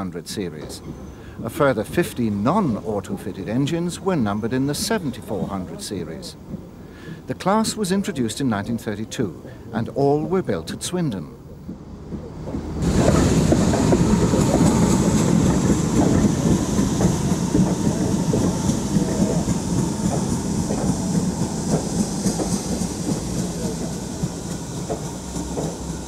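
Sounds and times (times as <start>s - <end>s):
wheels clattering over rail joints: 0.0s - 6.8s, 9.8s - 26.0s.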